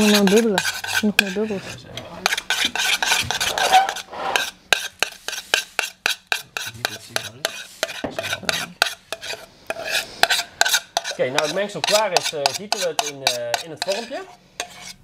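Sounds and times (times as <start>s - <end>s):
spoon scraping metal saucepan: 0.0s - 15.0s.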